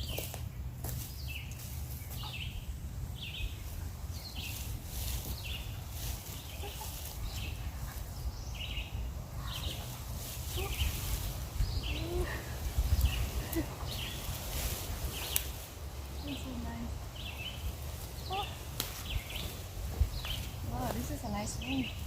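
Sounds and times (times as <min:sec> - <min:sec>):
crackling footsteps: 0:00.0 - 0:02.5, 0:03.5 - 0:08.2, 0:09.4 - 0:22.0
birds chirping: 0:00.0 - 0:22.0
steady low rumble: 0:00.0 - 0:22.0.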